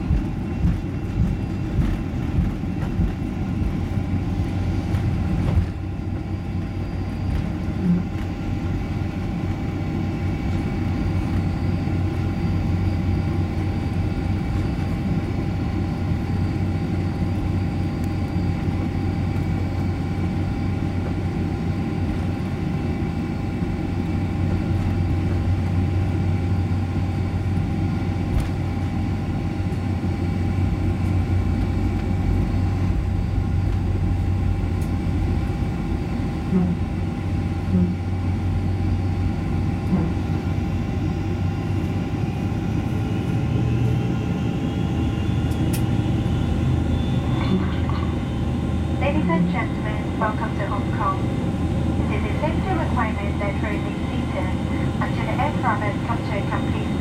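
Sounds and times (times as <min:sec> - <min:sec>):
aircraft engines idling rumble: 0:00.0 - 0:57.0
faint steady whining tones: 0:00.0 - 0:57.0.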